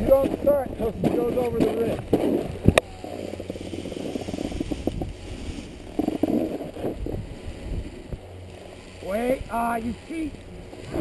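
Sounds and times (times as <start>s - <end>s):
skis scraping over snow: 0.0s - 11.0s.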